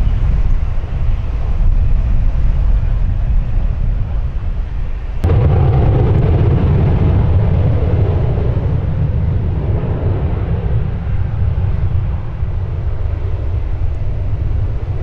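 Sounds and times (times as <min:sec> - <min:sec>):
airliner engines rumbling: 0:00.0 - 0:15.0
wind buffeting microphone: 0:00.0 - 0:15.0.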